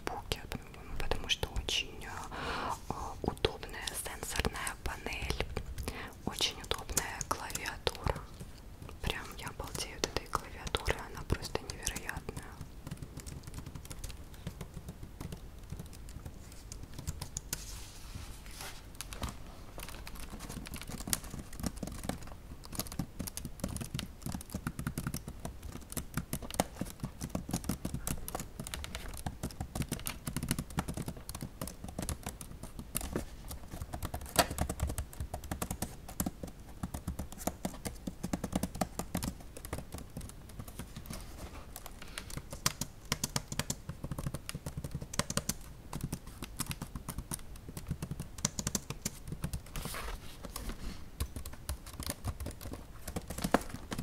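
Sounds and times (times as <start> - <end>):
fingernails typing on keyboard: 3.4 - 17.6, 19.0 - 41.2, 41.8 - 49.9, 50.5 - 54.0.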